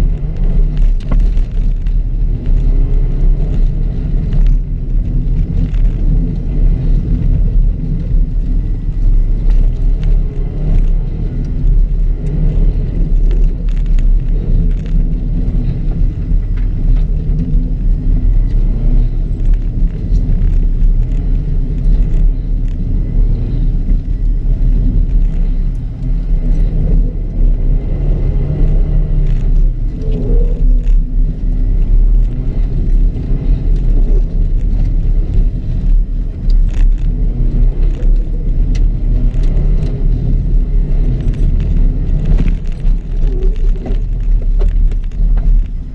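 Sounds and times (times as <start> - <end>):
car engine and tyres on dirt: 0.0 - 45.9.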